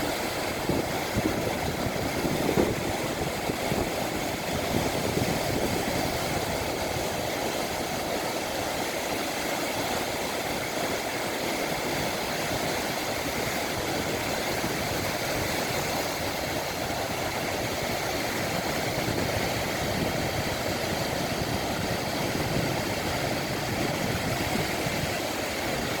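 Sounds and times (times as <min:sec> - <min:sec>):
ocean waves: 0:00.0 - 0:26.0
wind: 0:00.0 - 0:26.0.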